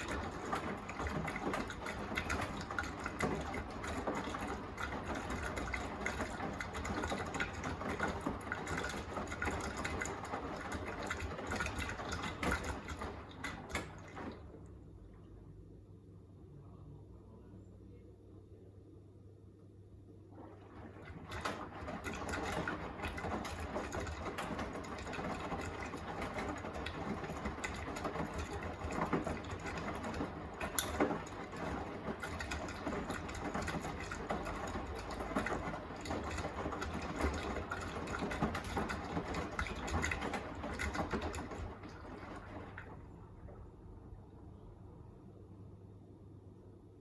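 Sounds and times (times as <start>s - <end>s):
washing machine drum turning: 0.0s - 14.7s, 20.3s - 43.7s.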